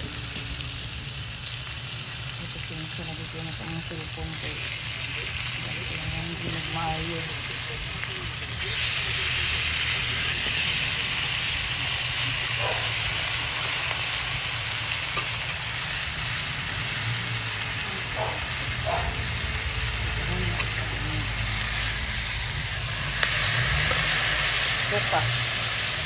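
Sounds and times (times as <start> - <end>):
fish sizzling in a wok: 0.0 - 26.0.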